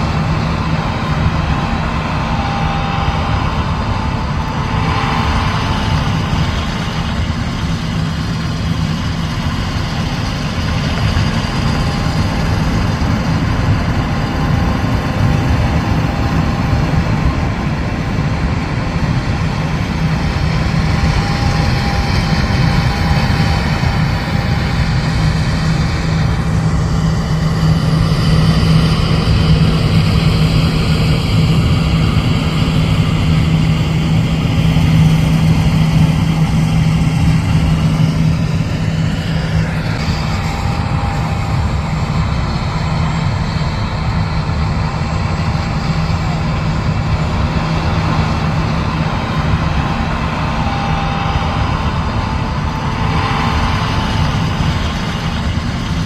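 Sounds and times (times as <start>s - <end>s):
diesel engine rumble: 0.0s - 56.0s
steady low hum: 0.0s - 56.0s.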